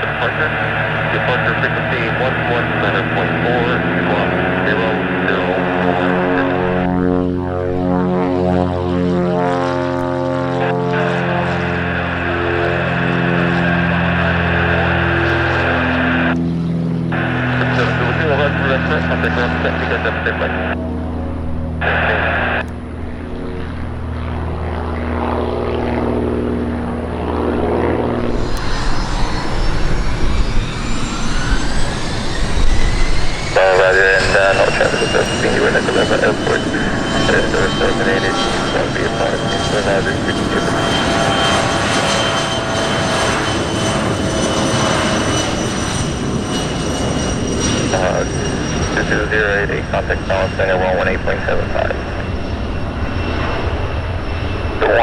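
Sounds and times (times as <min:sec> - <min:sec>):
jet engine rumble with rising whine: 0:00.0 - 0:55.0
propeller plane engines droning: 0:00.0 - 0:55.0.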